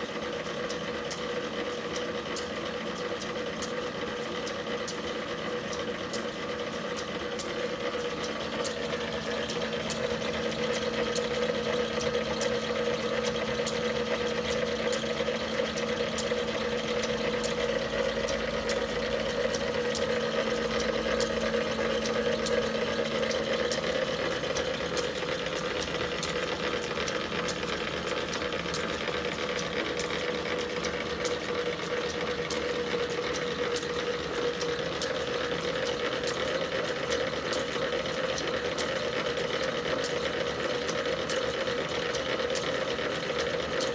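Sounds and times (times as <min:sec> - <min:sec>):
pillar drill motor hum: 0:03.2 - 0:43.9.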